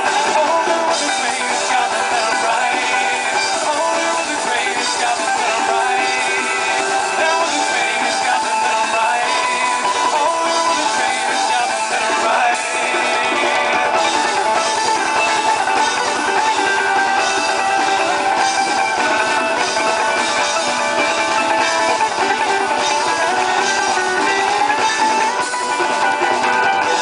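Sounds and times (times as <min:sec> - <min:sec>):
acoustic string band playing: 0:00.0 - 0:27.0.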